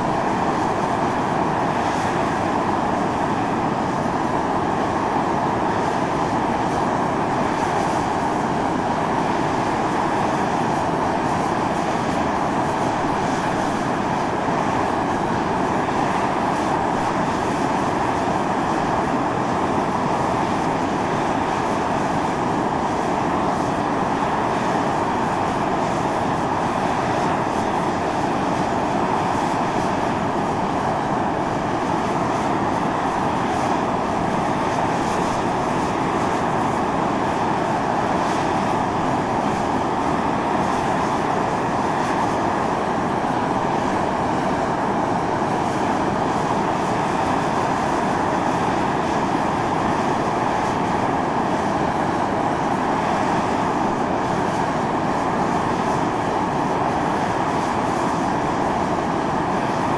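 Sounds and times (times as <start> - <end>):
steam hissing from a vent: 0.0 - 59.9.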